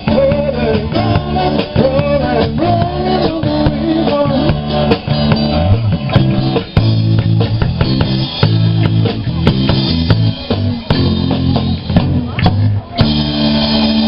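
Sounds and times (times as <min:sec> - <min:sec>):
bass guitar: 0:00.0 - 0:14.0
drum kit beat: 0:00.0 - 0:14.0
electric guitar: 0:00.0 - 0:14.0.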